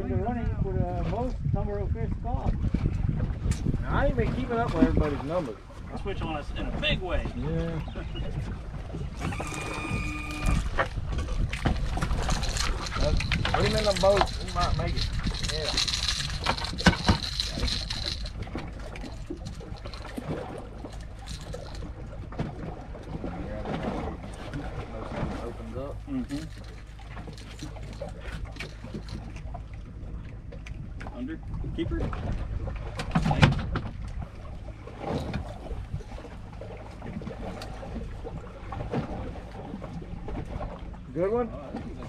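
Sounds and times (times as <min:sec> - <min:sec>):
water lapping against boat: 0:00.0 - 0:42.0.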